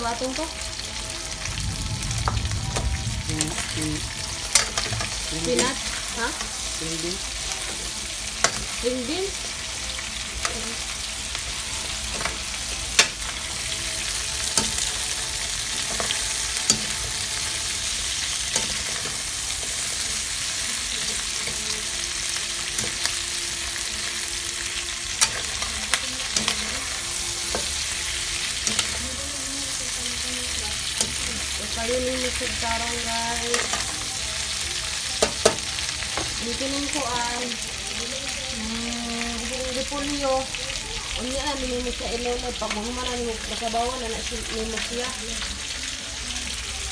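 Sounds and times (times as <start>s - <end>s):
food sizzling in a wok: 0.0s - 46.9s.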